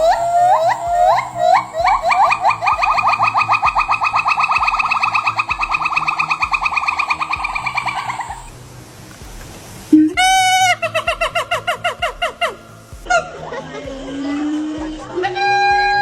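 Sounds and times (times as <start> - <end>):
monkey whooping call: 0.0 - 8.6, 9.9 - 16.0.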